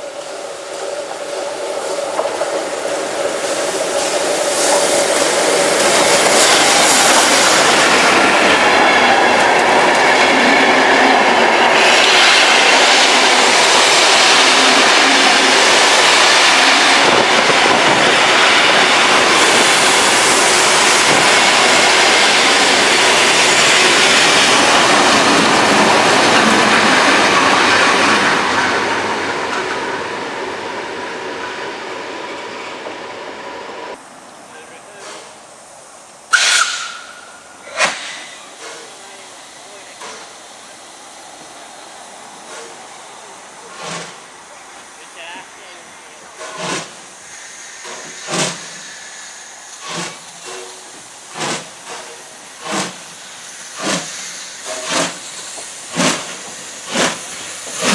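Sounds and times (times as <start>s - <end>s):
steam locomotive running past: 0.0s - 57.9s.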